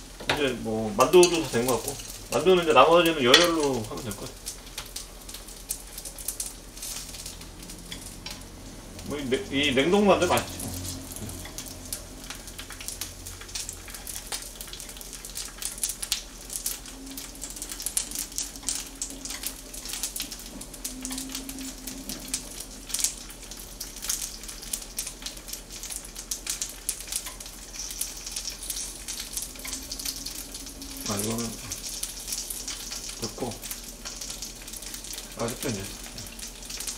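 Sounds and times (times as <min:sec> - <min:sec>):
dumplings crackling in oil: 0:00.0 - 0:36.9.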